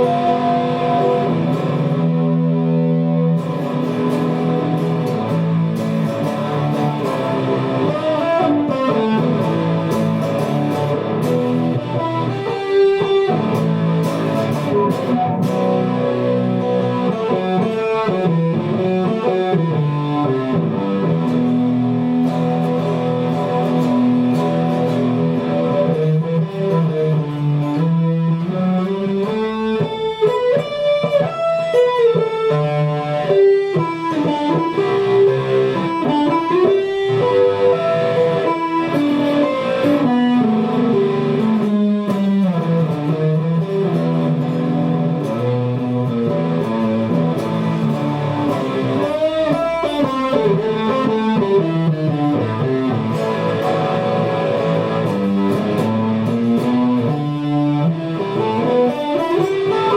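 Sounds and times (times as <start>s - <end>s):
plucked guitar melody: 0.0s - 59.9s.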